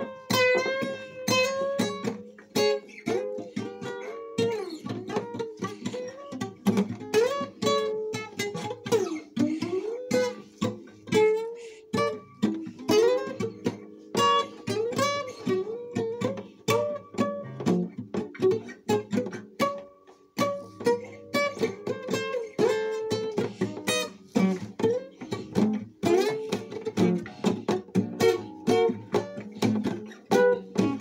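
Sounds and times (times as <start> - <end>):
acoustic guitar playing: 0.0 - 31.0.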